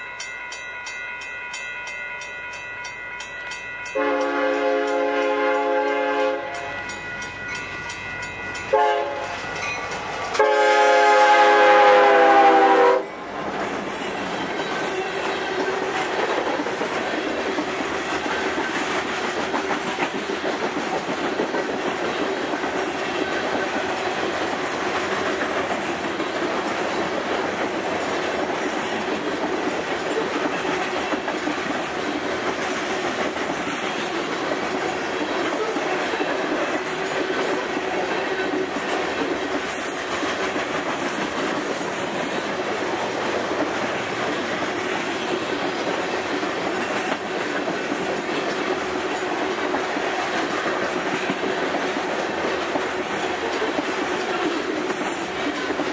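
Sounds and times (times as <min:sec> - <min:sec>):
train wheels rumbling on rail: 0:02.2 - 0:55.9.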